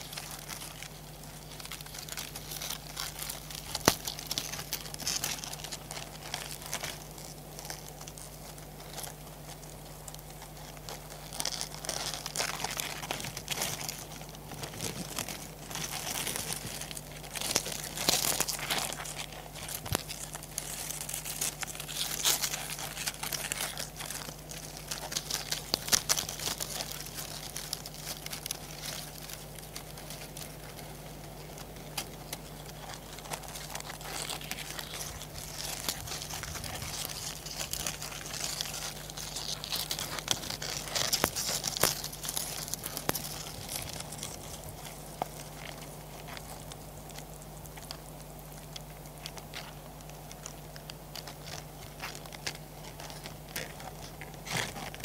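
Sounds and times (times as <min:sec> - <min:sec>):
crabs rustling on leaves: 0:00.0 - 0:55.0
low hum: 0:00.0 - 0:55.0.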